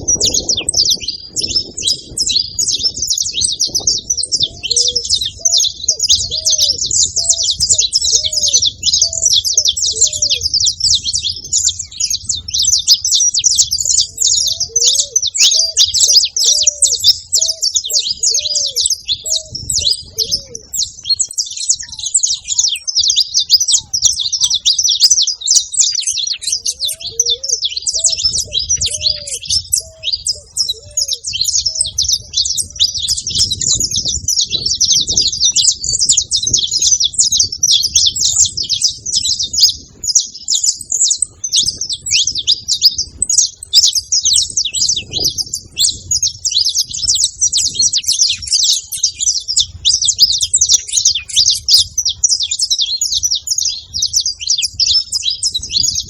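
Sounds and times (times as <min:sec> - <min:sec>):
finches singing and chirping: 0:00.0 - 0:56.0.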